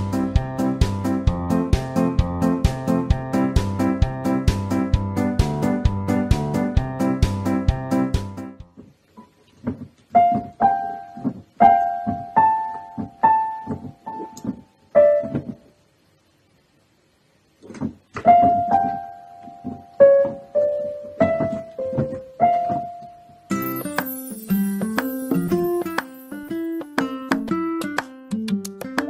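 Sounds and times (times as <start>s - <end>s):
piano melody: 0.0s - 8.6s, 10.2s - 15.6s, 18.2s - 28.4s.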